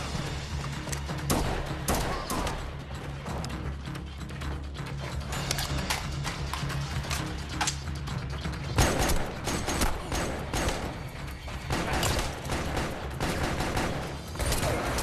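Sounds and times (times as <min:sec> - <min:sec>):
gunshots in bursts: 0:00.0 - 0:03.5, 0:05.3 - 0:15.0.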